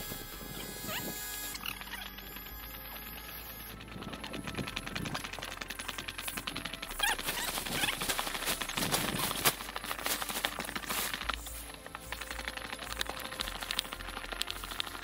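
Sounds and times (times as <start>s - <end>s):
nylon tent fabric rustling: 0.0s - 15.0s.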